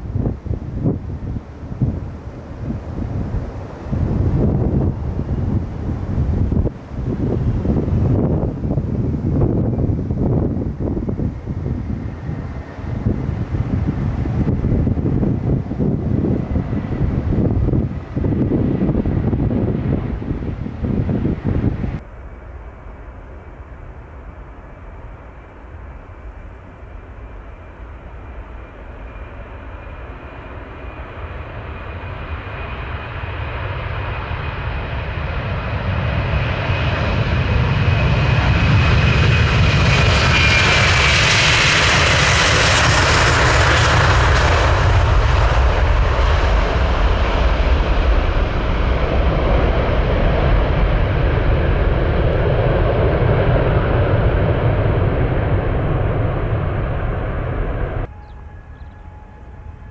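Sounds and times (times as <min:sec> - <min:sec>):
jet airliner flying past: 0:00.0 - 0:59.9.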